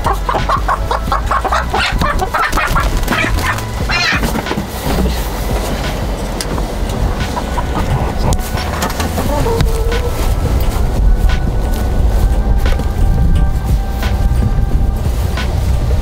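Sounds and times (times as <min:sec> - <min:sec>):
chickens clucking: 0:00.0 - 0:14.4
low rumble: 0:00.0 - 0:16.0.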